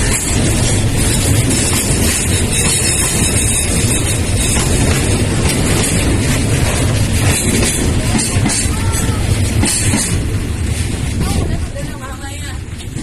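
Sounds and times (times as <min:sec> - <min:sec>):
railway wheels rumbling on rails: 0:00.0 - 0:13.0
wheels clattering over rail joints: 0:00.0 - 0:13.0.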